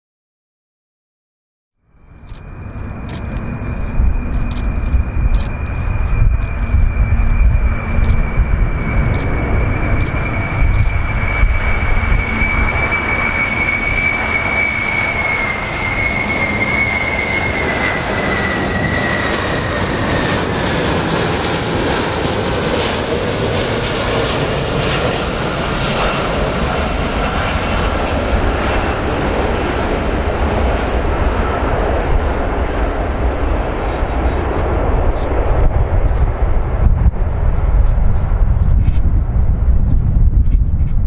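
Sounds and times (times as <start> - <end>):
jet engines roaring with whine: 1.8 - 41.0.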